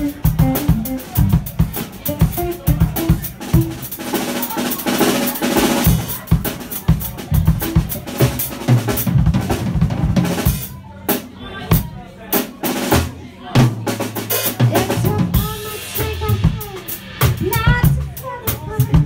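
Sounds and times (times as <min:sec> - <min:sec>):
drum kit playing: 0:00.0 - 0:19.0.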